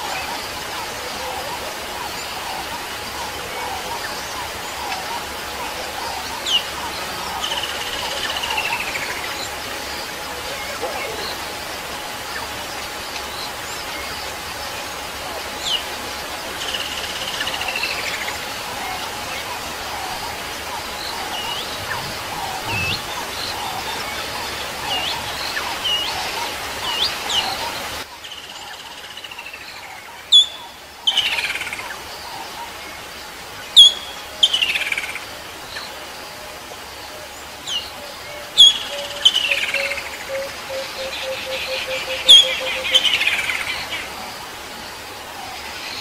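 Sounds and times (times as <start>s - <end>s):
wild birds chirping: 0.0s - 46.0s.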